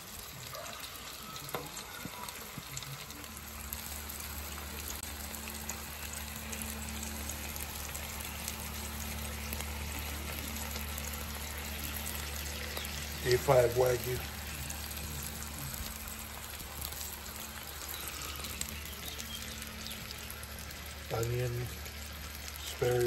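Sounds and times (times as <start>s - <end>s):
steak sizzling on a griddle: 0.0s - 23.0s.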